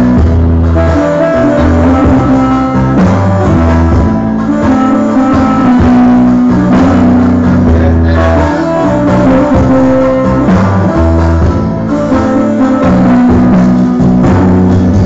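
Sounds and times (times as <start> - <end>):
improvised instrumental solo: 0.0 - 15.0
long held bass notes: 0.0 - 15.0.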